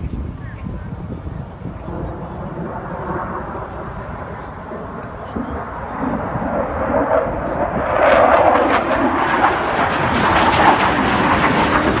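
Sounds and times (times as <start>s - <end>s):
jet roaring overhead: 0.0s - 12.0s.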